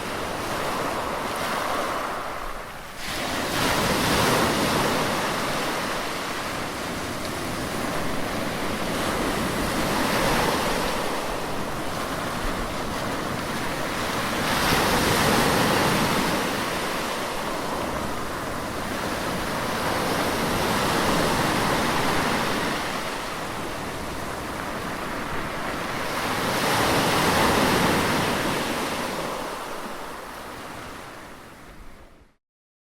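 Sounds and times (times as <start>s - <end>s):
sea waves surging and washing back: 0.0s - 32.4s.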